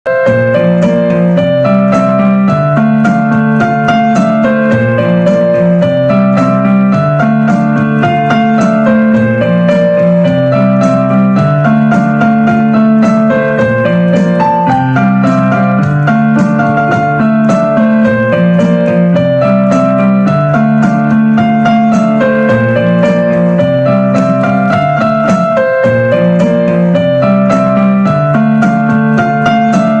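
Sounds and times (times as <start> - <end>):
piano background music: 0.1 - 30.0.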